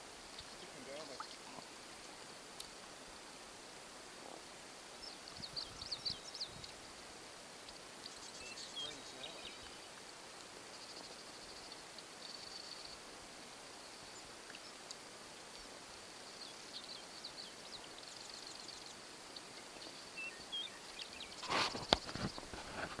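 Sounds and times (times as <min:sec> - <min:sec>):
small birds chirping: 0:00.0 - 0:03.0, 0:04.1 - 0:23.0.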